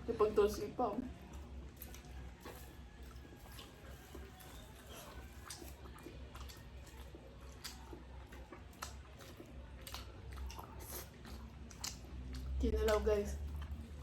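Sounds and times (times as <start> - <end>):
person chewing food: 1.1 - 14.0.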